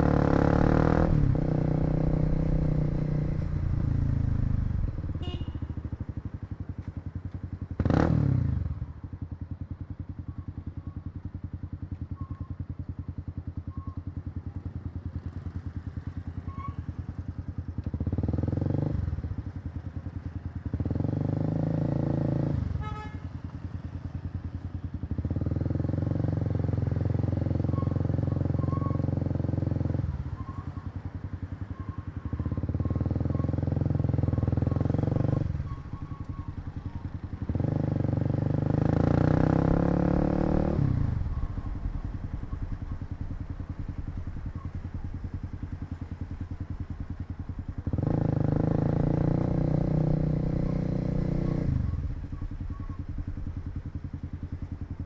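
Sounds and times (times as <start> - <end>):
motorcycle engine revving: 0.0 - 6.8, 7.6 - 9.2, 17.8 - 55.0.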